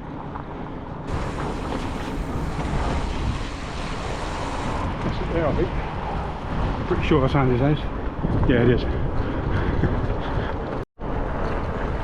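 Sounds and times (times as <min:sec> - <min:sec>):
bicycle road noise: 0:00.0 - 0:12.0
wind rushing over microphone: 0:00.0 - 0:12.0.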